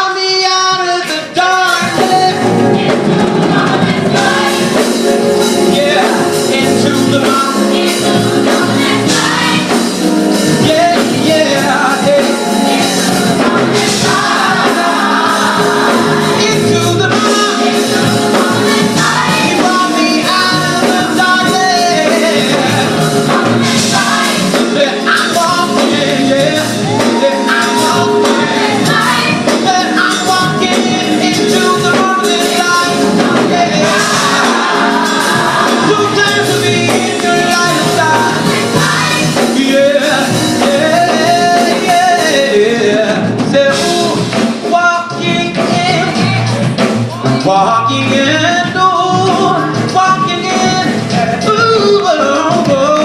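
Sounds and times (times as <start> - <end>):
band playing: 0.0 - 53.0
gospel choir singing in harmony: 0.0 - 53.0.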